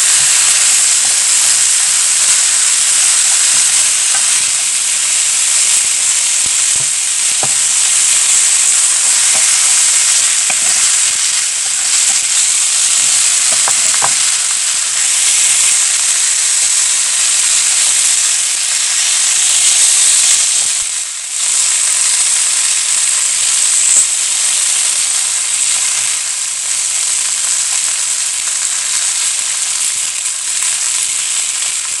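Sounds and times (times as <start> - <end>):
fish sizzling in a pan: 0.0 - 32.0.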